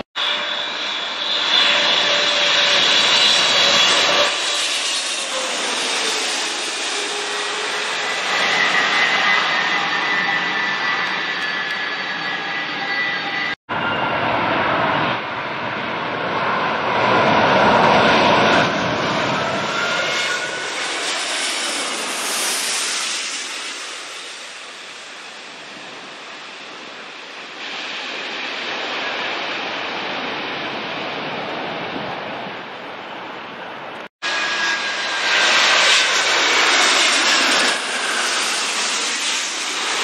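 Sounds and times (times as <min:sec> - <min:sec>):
jet airliner engines rushing: 0:00.0 - 0:40.0.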